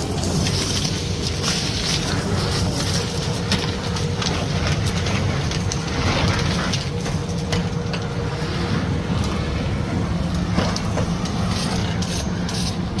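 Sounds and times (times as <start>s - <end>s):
debris clicking and rattling in hose: 0.0s - 8.1s, 10.2s - 13.0s.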